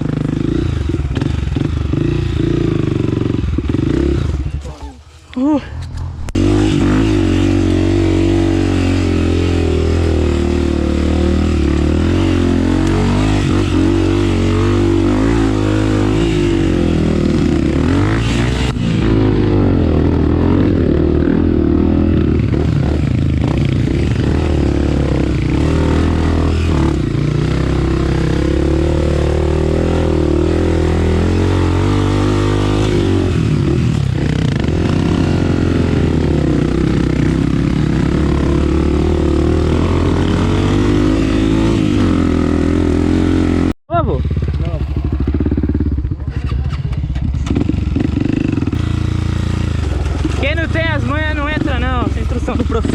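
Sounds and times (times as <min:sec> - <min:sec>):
motorcycle engine revving: 0:00.0 - 0:04.8, 0:05.9 - 0:52.9.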